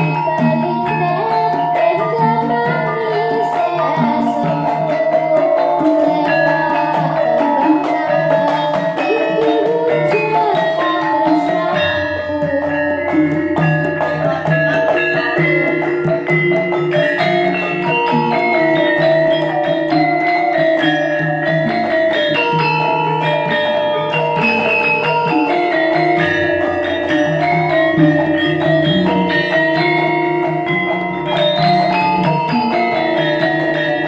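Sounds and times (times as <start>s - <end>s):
gamelan music: 0.0s - 34.0s.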